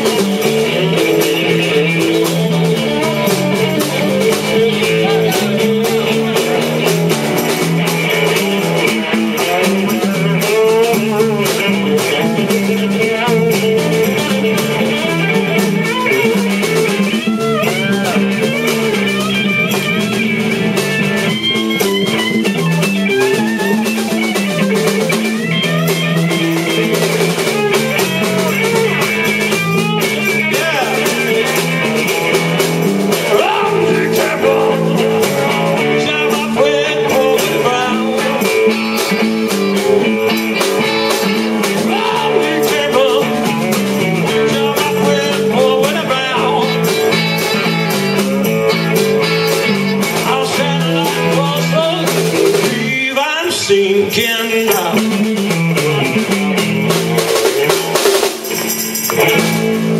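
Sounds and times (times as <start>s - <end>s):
bass guitar line: 0.0s - 59.9s
drum kit: 0.0s - 59.9s
electric guitar lead with bent notes: 0.0s - 59.9s.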